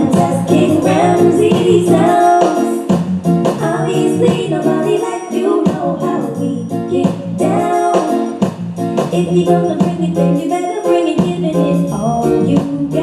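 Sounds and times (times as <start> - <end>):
dancehall music with sung vocal: 0.0 - 13.0.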